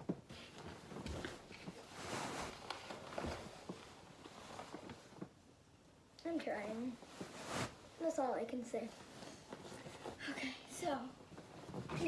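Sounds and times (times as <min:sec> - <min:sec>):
soft knocks and shuffles: 0:00.0 - 0:05.4, 0:06.6 - 0:12.0
fabric rustling: 0:00.2 - 0:05.4, 0:06.8 - 0:12.0.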